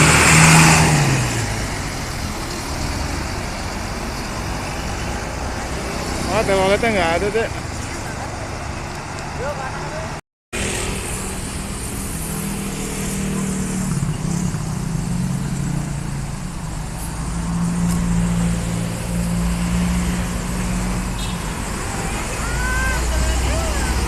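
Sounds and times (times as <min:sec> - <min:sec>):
heavy vehicle engine hum: 0:00.0 - 0:24.0
road traffic passing: 0:00.0 - 0:24.0.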